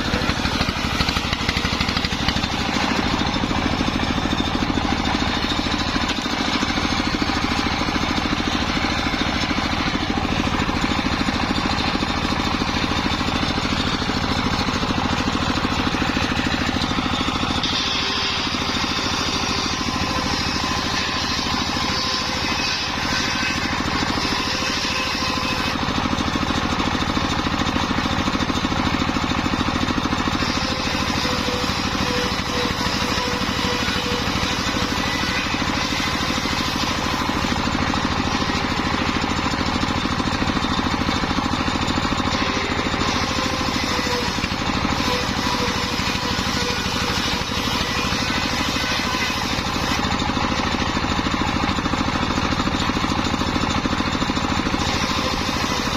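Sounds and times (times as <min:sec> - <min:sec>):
sawmill running with engine drone: 0:00.0 - 0:55.9.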